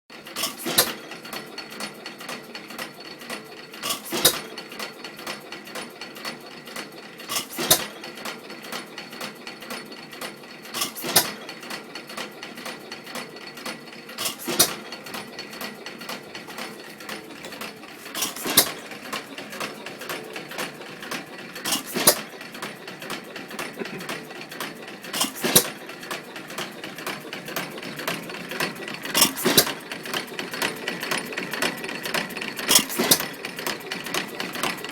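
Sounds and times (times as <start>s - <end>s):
engine mechanical clatter: 0.1s - 34.9s.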